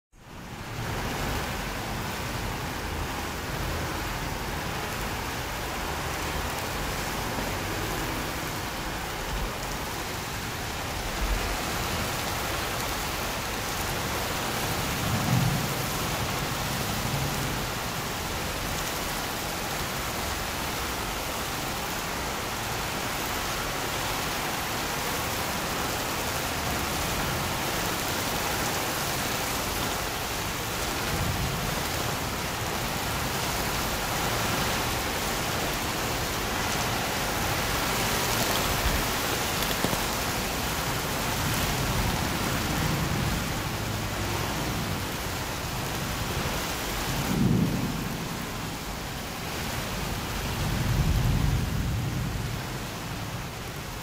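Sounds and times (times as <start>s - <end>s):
heavy rain hissing: 0.3s - 54.0s.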